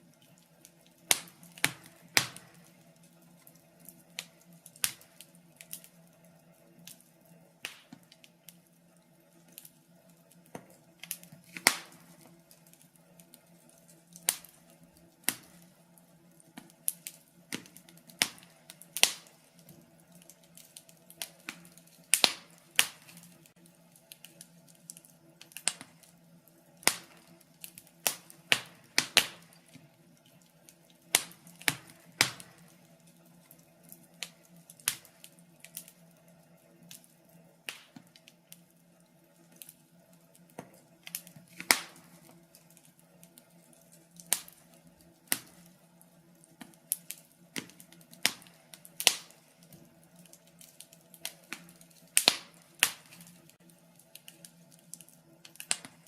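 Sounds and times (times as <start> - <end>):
faint steady hum: 0.0 - 56.0
fire crackling and popping: 0.0 - 56.0.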